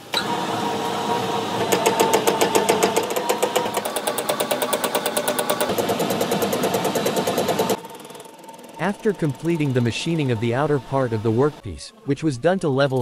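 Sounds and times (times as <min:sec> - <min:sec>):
lathe machine hum: 0:00.0 - 0:13.0.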